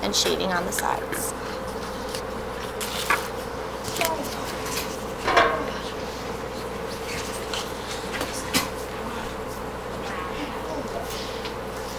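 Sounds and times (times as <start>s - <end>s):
electrical buzz: 0.0s - 11.9s.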